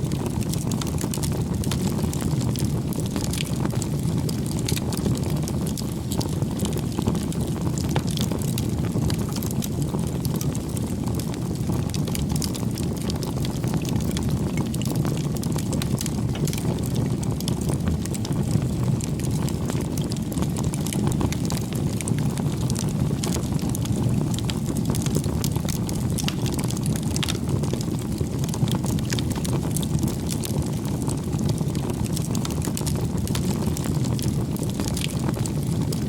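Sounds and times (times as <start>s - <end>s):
bonfire crackling: 0.0s - 36.0s
flames rushing: 0.0s - 36.0s.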